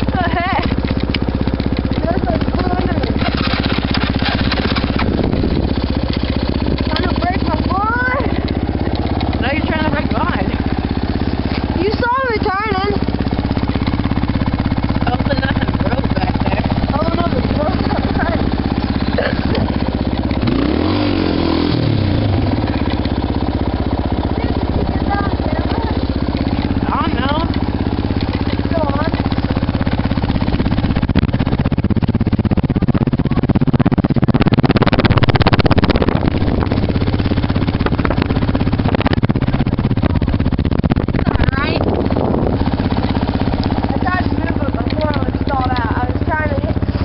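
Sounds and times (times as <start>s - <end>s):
quad bike engine revving: 0.0s - 47.0s.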